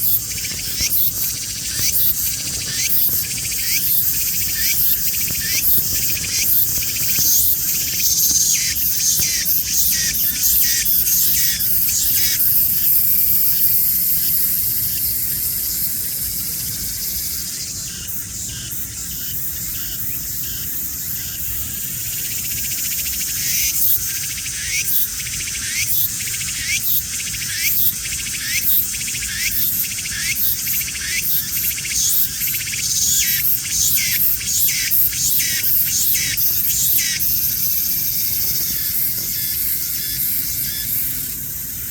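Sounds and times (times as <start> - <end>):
cicada buzzing: 0.0 - 41.9.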